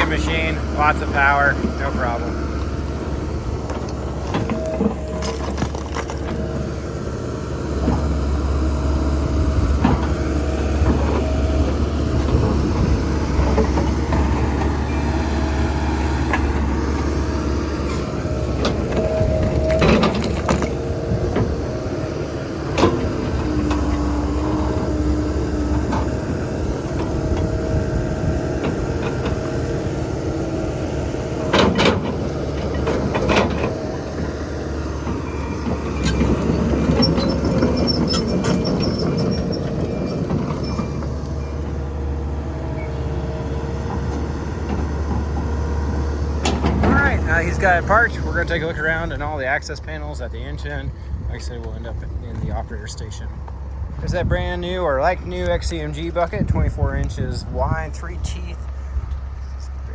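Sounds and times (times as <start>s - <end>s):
excavator diesel engine: 0.0s - 59.9s
hydraulic whine: 0.0s - 59.9s.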